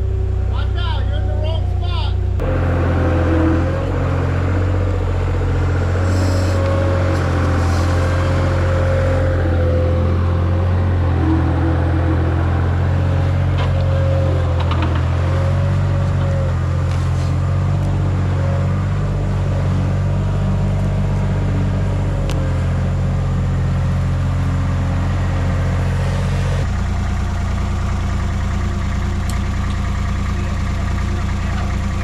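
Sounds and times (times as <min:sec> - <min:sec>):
skid steer engine running: 0:00.0 - 0:32.0.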